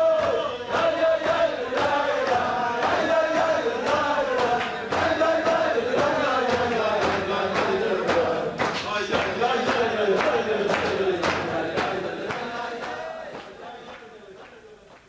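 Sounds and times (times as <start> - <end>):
sharp rhythmic beat: 0.0 - 14.5
crowd of men singing: 0.0 - 14.8.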